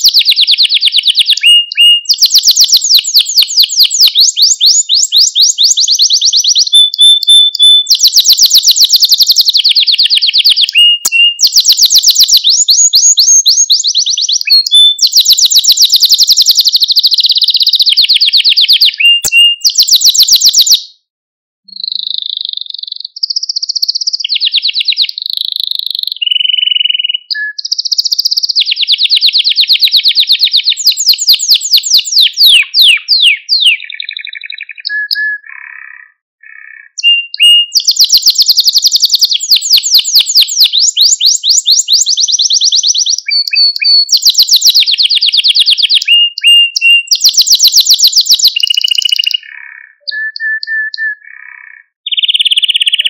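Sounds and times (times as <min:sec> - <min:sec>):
canary singing trills: 0:00.0 - 0:21.1, 0:21.7 - 0:53.0.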